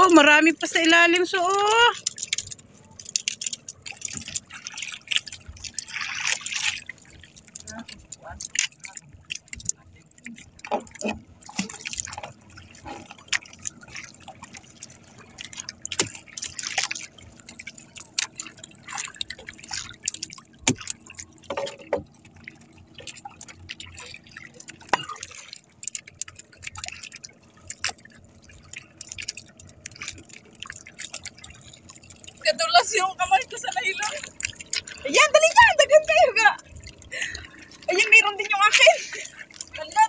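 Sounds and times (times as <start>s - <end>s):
water dripping and splashing: 0.0s - 40.0s.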